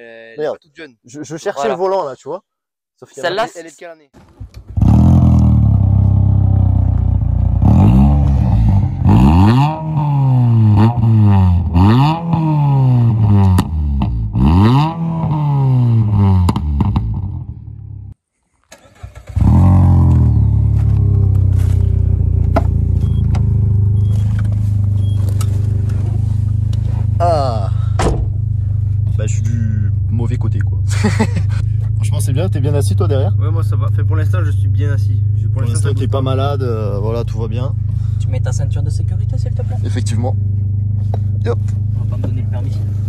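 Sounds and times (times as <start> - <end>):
car engine idling and revving: 4.2 - 18.2, 19.0 - 43.0.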